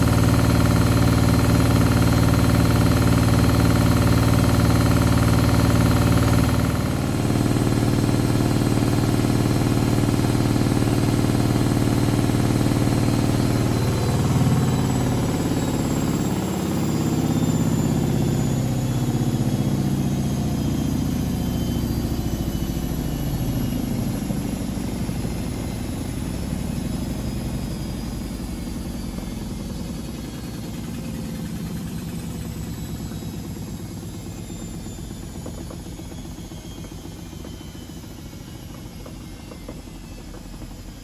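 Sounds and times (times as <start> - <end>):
washing machine drum spinning: 0.0 - 41.0.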